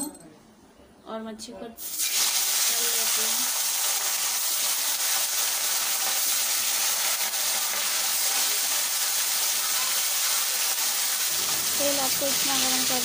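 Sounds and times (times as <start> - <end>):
fish deep-frying in oil: 1.8 - 13.0.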